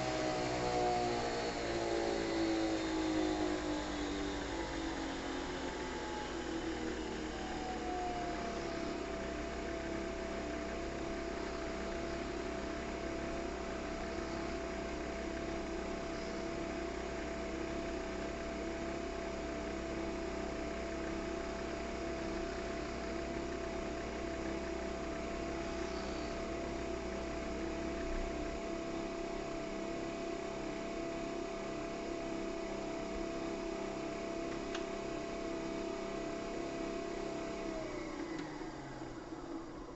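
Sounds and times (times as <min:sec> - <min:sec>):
coffee machine motor whine: 0:00.0 - 0:39.9.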